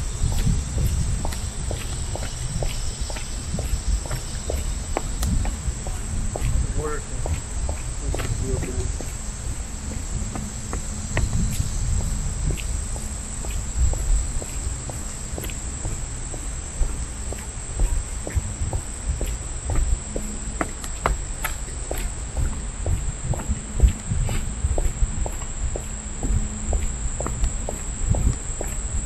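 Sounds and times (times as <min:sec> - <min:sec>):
insects calling: 0:00.0 - 0:29.0
low rumble: 0:00.0 - 0:29.0
soft footsteps: 0:00.0 - 0:29.0.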